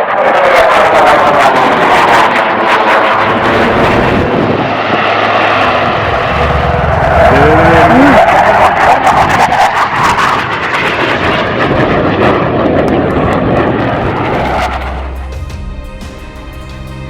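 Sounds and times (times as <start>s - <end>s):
aircraft engine flying past: 0.0s - 17.0s.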